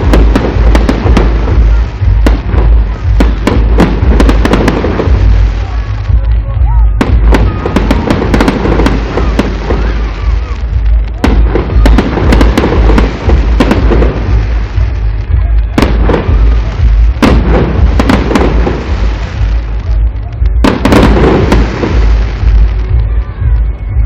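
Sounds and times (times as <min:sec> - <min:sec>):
fireworks bangs: 0:00.0 - 0:24.0
heavy low rumble: 0:00.0 - 0:24.0.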